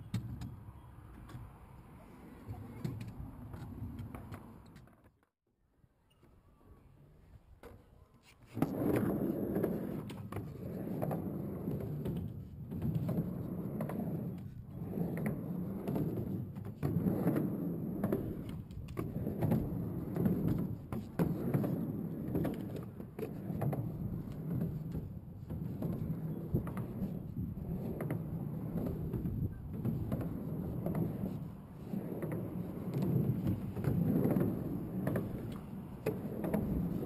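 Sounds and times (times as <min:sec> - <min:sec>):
skateboard wheels rolling on ramp: 0:00.0 - 0:05.2, 0:07.6 - 0:37.0.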